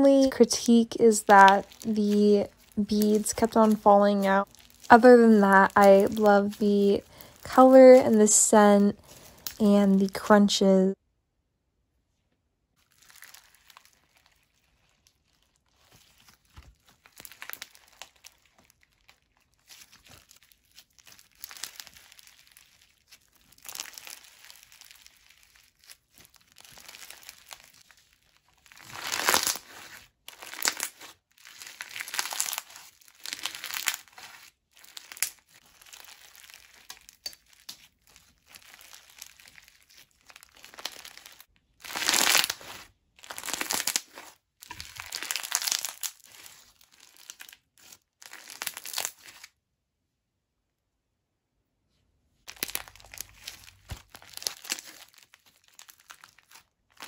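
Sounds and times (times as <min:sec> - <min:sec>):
bead slime crunching: 0:00.0 - 0:10.2, 0:12.8 - 0:49.5, 0:52.4 - 0:57.0.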